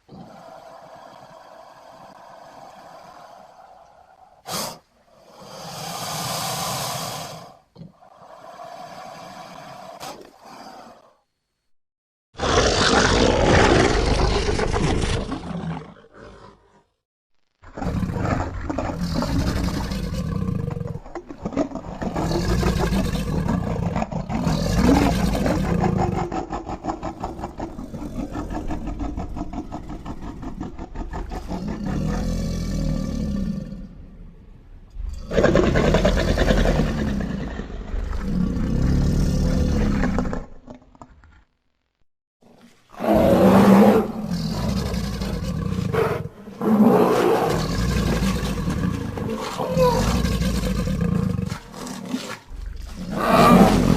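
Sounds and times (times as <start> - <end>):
creature roars and growls: 0.0 - 11.2, 12.4 - 16.9, 17.7 - 34.2, 35.0 - 40.6, 42.9 - 53.9.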